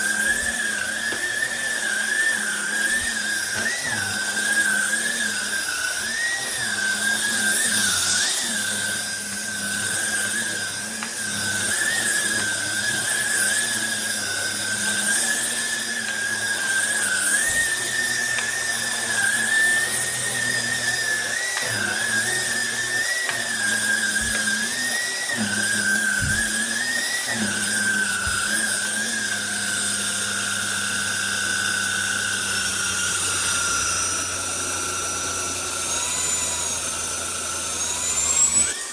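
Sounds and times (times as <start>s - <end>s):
cordless vacuum motor whine: 0.0s - 38.9s.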